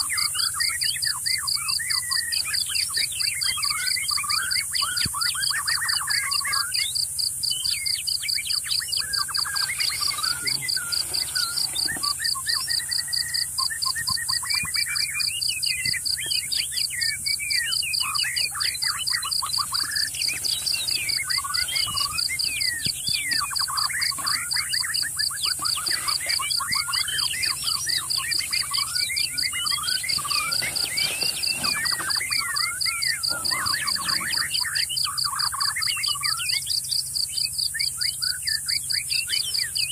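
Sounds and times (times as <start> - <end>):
birds chirping and whistling: 0.0 - 39.9
pulsing insect trill: 0.0 - 39.9.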